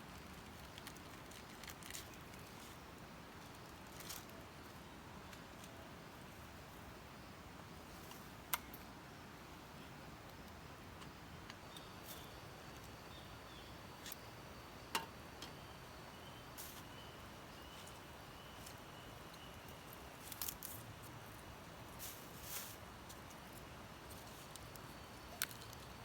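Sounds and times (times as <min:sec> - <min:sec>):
low hiss: 0:00.0 - 0:26.0.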